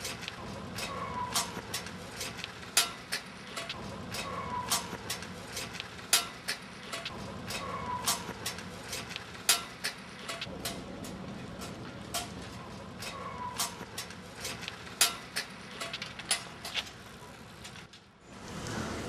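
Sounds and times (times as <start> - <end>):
bicycle rattling clicks and clanks: 0.0 - 19.0
bicycle rolling noise: 0.0 - 19.0.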